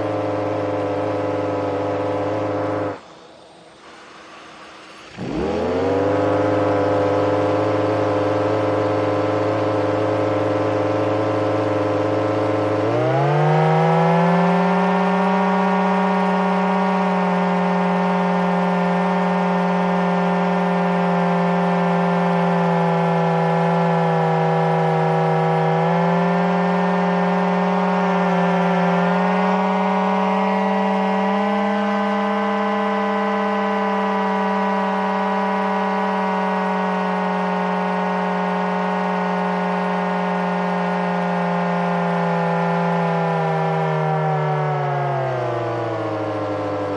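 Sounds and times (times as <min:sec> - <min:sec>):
turbine whine: 0:00.0 - 0:46.9.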